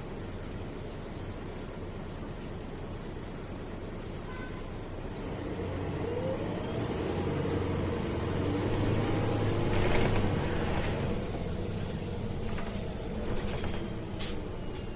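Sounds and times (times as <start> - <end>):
bus engine and road noise: 0.0 - 14.9.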